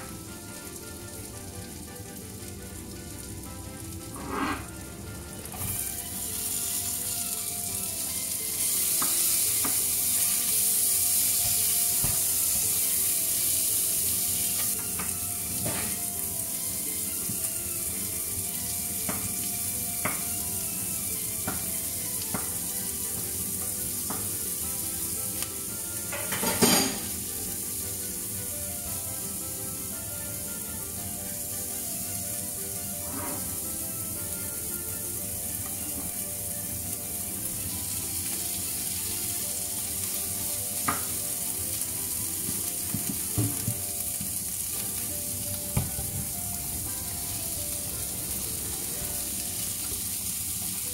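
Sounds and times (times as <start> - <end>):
onions sizzling in frying pan: 0.0 - 50.9.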